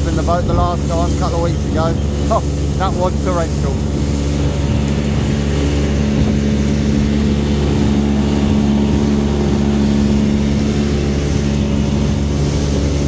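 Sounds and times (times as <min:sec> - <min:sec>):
motorboat engine humming: 0:00.0 - 0:13.0
rushing water noise: 0:00.0 - 0:13.0.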